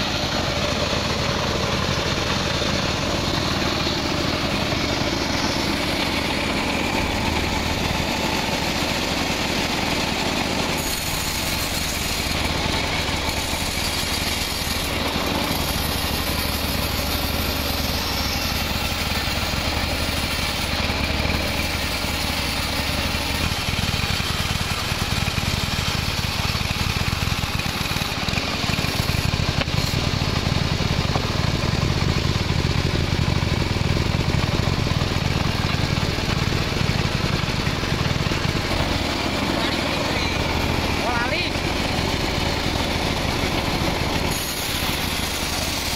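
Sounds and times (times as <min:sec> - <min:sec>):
band saw cutting log: 0:00.0 - 0:45.9
low engine hum: 0:00.0 - 0:45.9.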